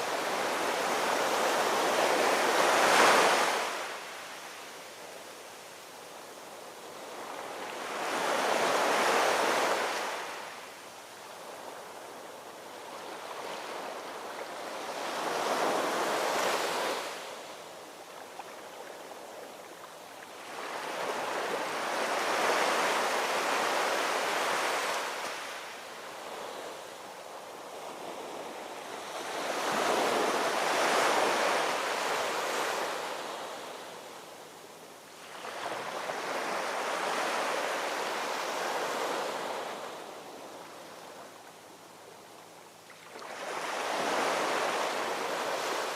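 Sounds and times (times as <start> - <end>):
ocean waves washing onto shore: 0.0 - 45.9.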